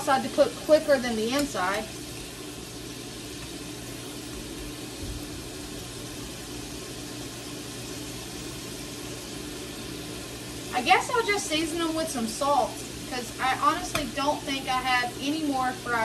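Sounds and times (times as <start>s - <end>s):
fries sizzling in oil: 0.0s - 16.0s.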